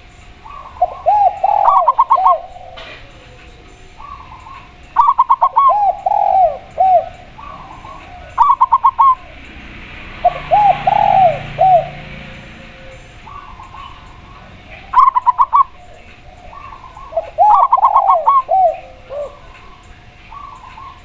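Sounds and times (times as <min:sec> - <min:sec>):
doves cooing: 0:00.0 - 0:21.0
faint dove coos: 0:00.0 - 0:21.0.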